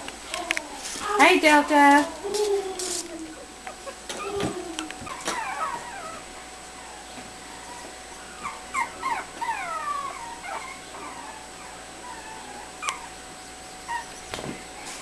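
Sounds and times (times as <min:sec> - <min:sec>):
dog whimpering: 0:01.9 - 0:13.2, 0:13.9 - 0:15.0.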